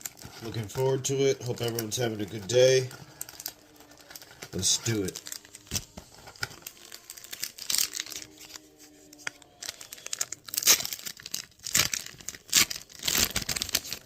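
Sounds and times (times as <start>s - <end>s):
foil wrapper tearing and crinkling: 0.0s - 14.0s.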